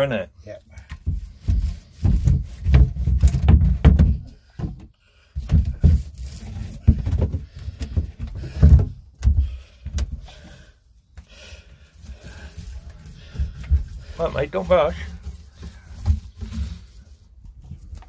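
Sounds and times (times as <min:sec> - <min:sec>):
dull bumps and knocks on wood: 0:00.9 - 0:10.6, 0:12.1 - 0:17.9.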